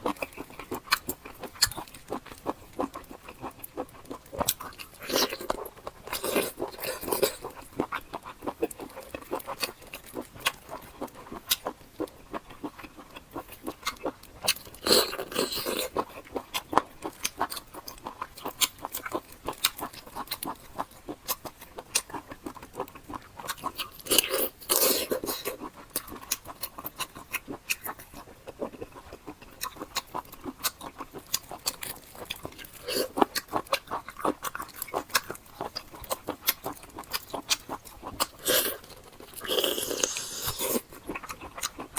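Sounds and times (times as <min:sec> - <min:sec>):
wet chewing and mouth sounds: 0:00.0 - 0:41.9.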